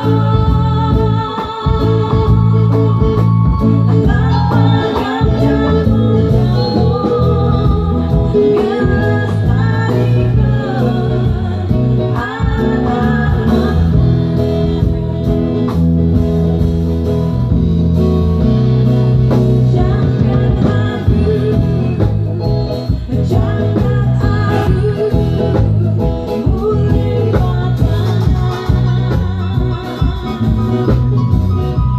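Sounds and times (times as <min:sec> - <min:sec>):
person singing: 0:00.0 - 0:16.1, 0:19.3 - 0:31.2
guitar: 0:00.0 - 0:31.9
heavy bass: 0:00.0 - 0:31.9.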